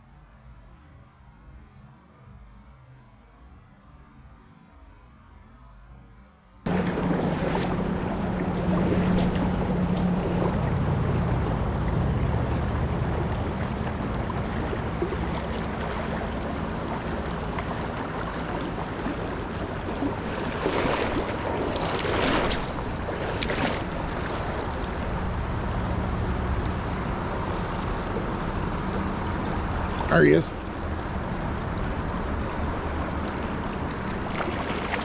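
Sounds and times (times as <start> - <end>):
creek water rushing: 6.7 - 35.0
wind rumbling on microphone: 6.7 - 35.0.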